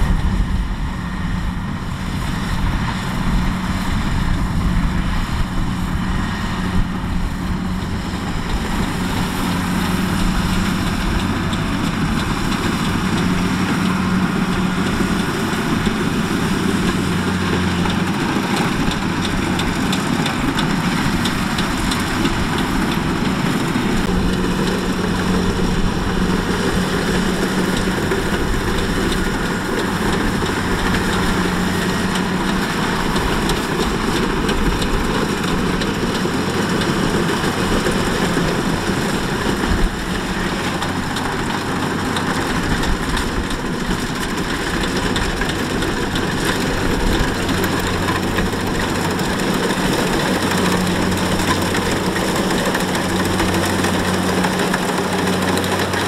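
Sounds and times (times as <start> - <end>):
harvester diesel engine running: 0.0 - 56.0.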